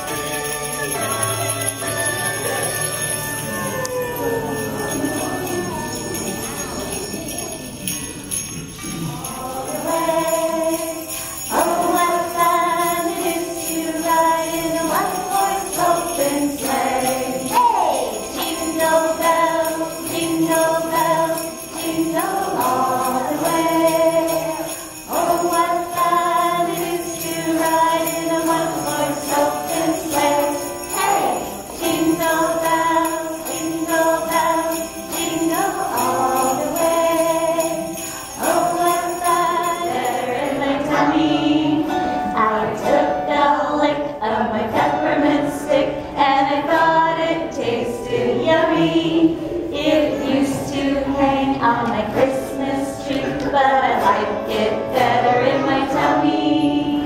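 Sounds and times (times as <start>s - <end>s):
christmas song: 0.0s - 57.0s
jingle bells shaken: 0.0s - 57.0s.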